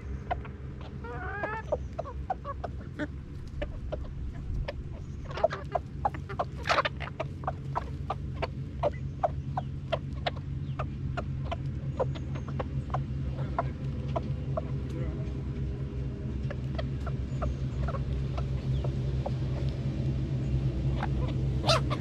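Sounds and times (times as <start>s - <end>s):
beaks tapping the ground: 0.0s - 22.0s
chickens clucking: 0.0s - 22.0s
steady low hum: 0.0s - 22.0s.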